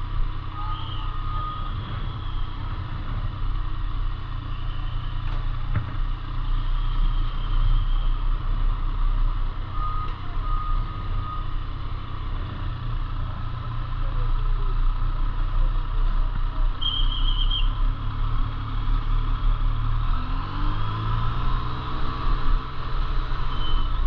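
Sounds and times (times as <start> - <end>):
vehicle rumble: 0.0 - 24.0.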